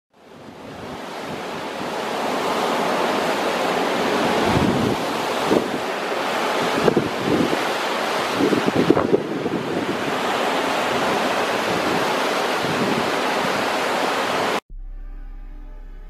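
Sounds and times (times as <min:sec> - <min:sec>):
wind buffeting microphone: 0:00.3 - 0:14.4
creek rushing over stones: 0:00.7 - 0:14.6.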